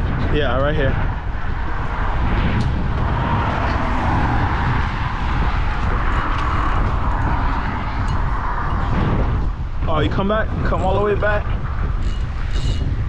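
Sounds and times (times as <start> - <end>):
road traffic rumble and tyre hiss: 0.0 - 13.0.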